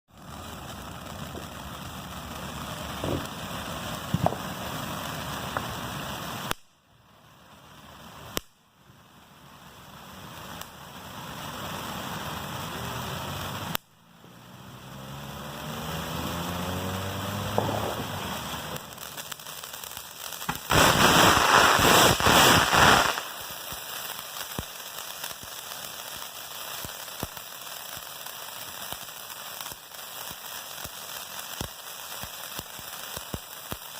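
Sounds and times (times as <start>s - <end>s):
fireworks crackling and popping: 0.1s - 33.9s.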